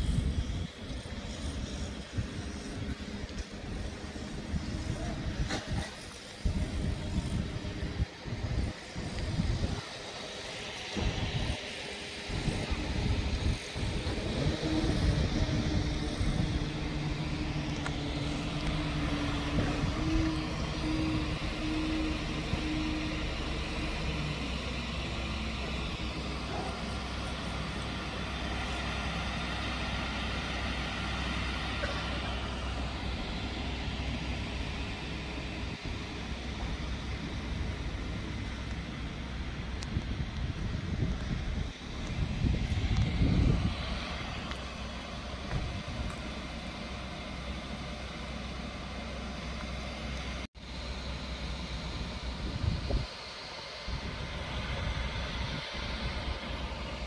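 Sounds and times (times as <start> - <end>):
wind buffeting microphone: 0.0 - 47.6, 51.9 - 57.0
electric train running: 0.0 - 57.0
steady outdoor hiss: 0.0 - 57.0.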